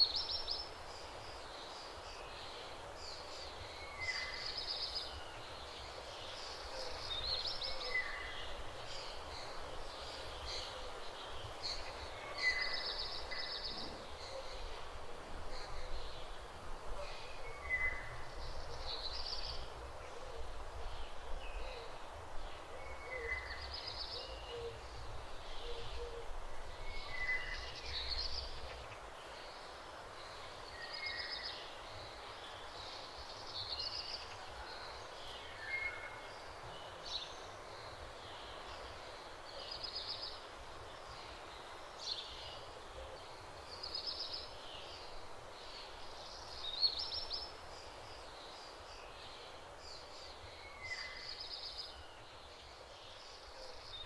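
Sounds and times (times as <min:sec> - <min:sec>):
small bird singing: 0:00.0 - 0:14.7, 0:22.6 - 0:54.0.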